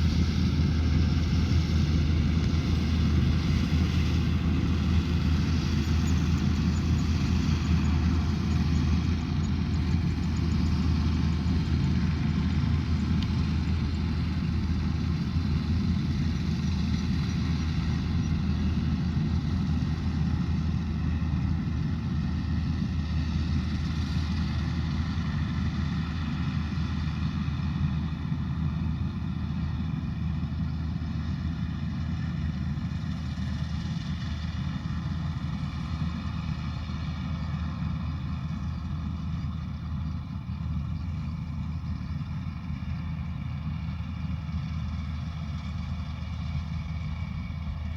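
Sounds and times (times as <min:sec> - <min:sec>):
combine harvester engine humming: 0:00.0 - 0:47.9.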